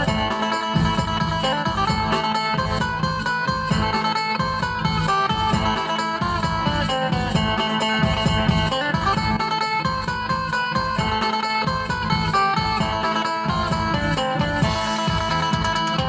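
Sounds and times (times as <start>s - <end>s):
plucked lute melody: 0.0s - 16.0s
steady bass beat: 0.0s - 16.0s.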